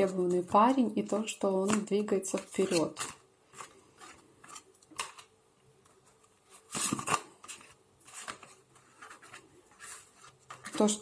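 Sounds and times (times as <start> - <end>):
cards rustling: 1.6 - 11.0.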